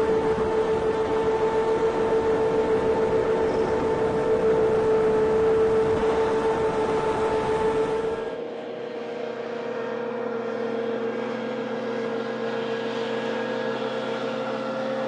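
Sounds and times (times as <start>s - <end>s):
hovercraft engine drone: 0.0s - 15.0s.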